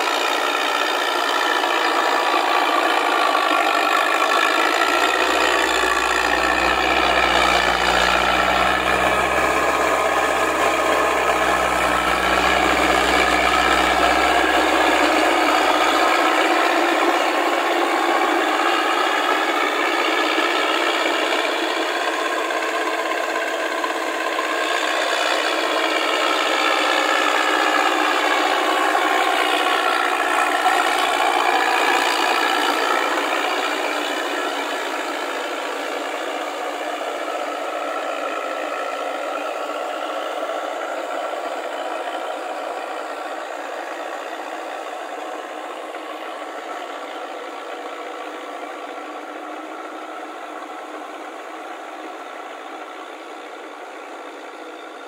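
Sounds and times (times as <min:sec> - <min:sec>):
tiller churning through water: 0:00.0 - 0:55.0
tractor engine under load: 0:00.0 - 0:55.0.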